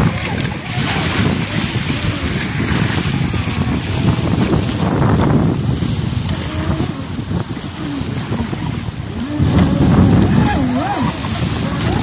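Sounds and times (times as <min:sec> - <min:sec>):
whine of model boat motors: 0:00.0 - 0:12.0
wind buffeting microphone: 0:00.0 - 0:12.0.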